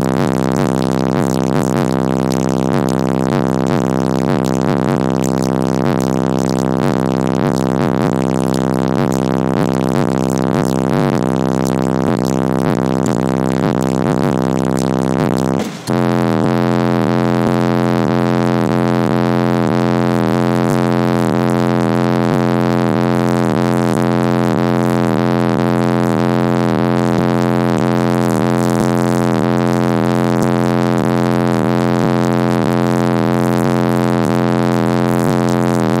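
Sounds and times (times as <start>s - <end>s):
bass-heavy music from subwoofers: 0.0s - 36.0s.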